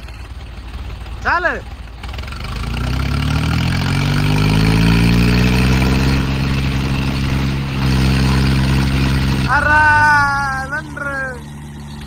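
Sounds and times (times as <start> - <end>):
tractor diesel engines labouring: 0.0 - 12.0.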